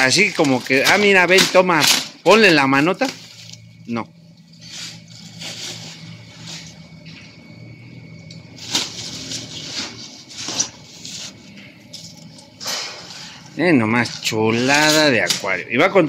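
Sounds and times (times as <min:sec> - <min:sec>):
packaging rustling and scraping: 0:00.0 - 0:07.6, 0:08.5 - 0:15.8.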